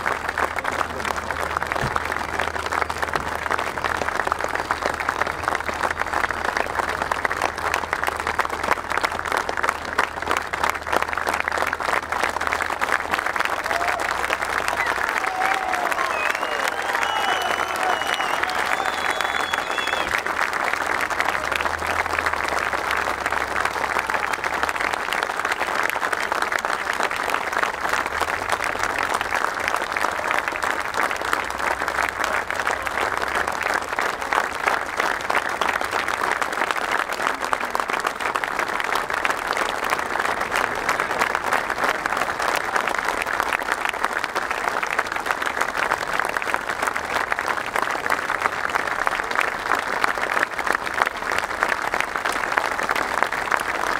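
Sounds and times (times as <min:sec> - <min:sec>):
large crowd applauding: 0:00.0 - 0:53.9.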